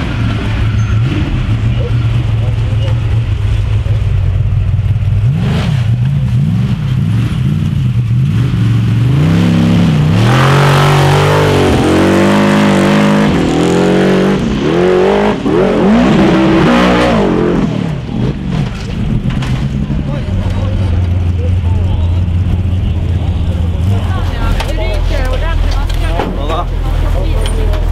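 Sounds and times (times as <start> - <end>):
buggy engine revving hard: 0.0 - 24.9.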